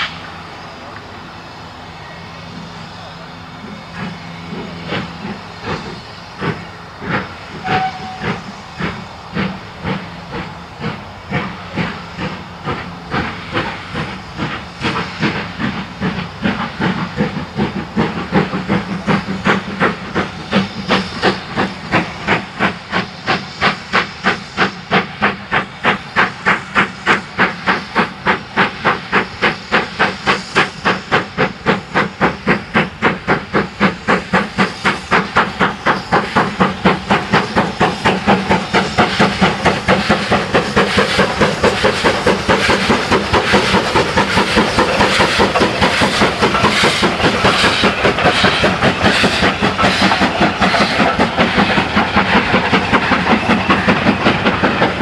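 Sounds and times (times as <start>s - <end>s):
hissing steam: 0.0s - 55.0s
steam locomotive exhaust beats: 0.0s - 55.0s.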